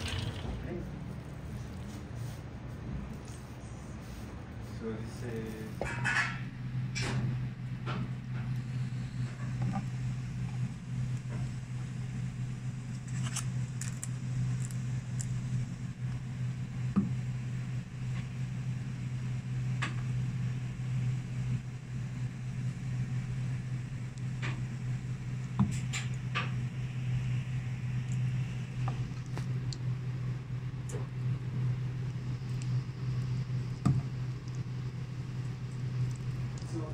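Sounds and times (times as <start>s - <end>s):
kitchen machinery hum: 0.0s - 36.9s.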